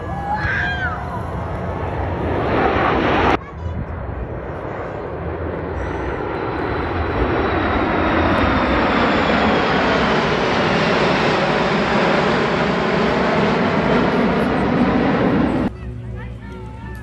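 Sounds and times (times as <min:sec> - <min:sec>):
fighter jets flying past: 0:00.0 - 0:15.7.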